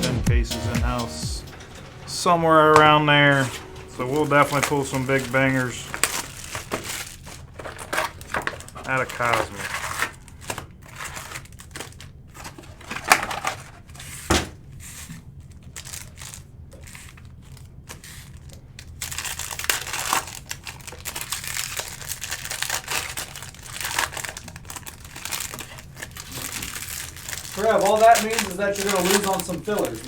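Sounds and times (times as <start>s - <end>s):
wrappers crinkling: 1.5s - 30.0s
card packs being torn open: 1.6s - 30.0s.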